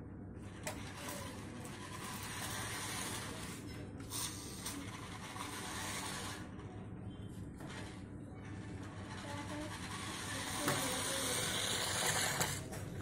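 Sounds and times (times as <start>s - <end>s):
toy truck motors whirring: 0.5s - 6.7s, 7.6s - 13.0s
wheels over grit: 0.7s - 6.6s, 7.6s - 12.8s.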